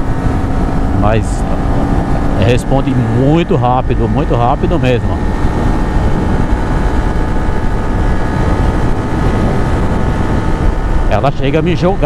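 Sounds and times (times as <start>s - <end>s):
motorcycle engine hum: 0.0s - 12.0s
wind noise on microphone: 0.0s - 12.0s.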